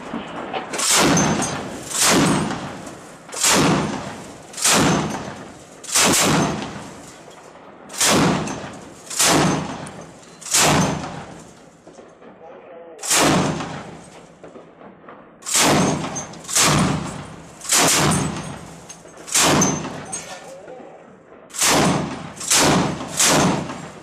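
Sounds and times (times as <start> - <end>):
machine gun single shots echoing: 0.0 - 12.3, 13.0 - 20.4, 21.4 - 24.0.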